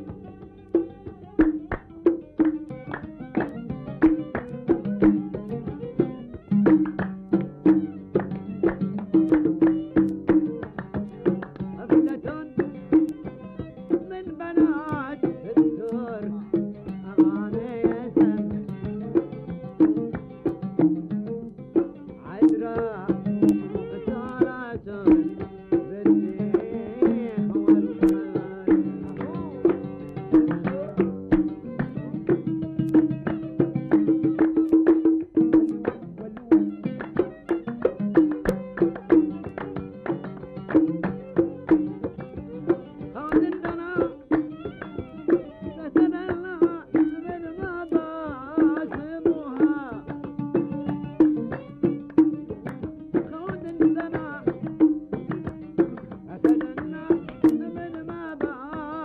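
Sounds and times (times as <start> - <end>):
hand drum strikes: 0.0 - 59.0
oud: 0.0 - 59.0
sliding string melody: 0.0 - 59.0.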